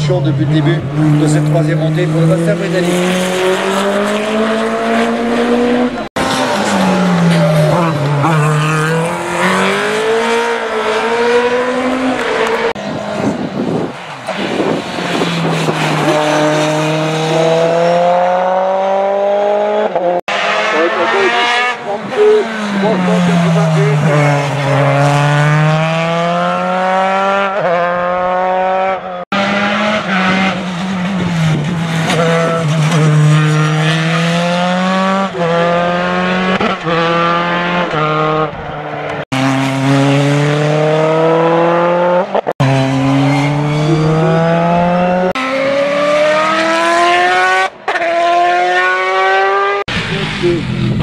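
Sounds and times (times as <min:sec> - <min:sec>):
racing car engines revving: 0:00.0 - 0:51.0.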